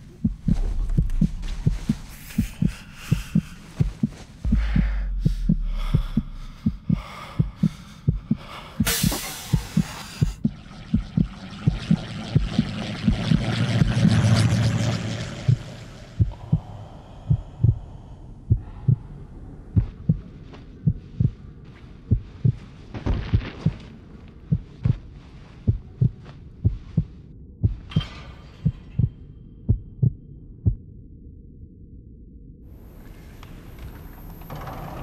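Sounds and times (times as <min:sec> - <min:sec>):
heartbeat thumps: 0:00.0 - 0:14.2, 0:15.5 - 0:30.9.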